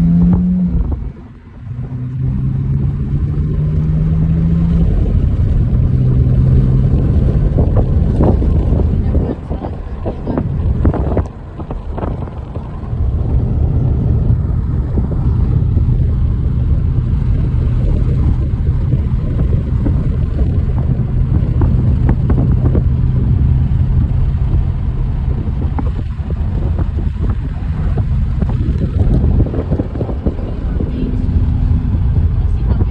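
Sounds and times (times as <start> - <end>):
car engine and tyres rumbling: 0.0 - 32.9.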